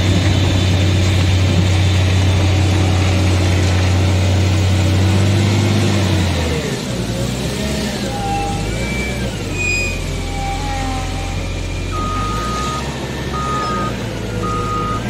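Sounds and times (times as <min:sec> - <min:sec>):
diesel loader engine drone: 0:00.0 - 0:15.0.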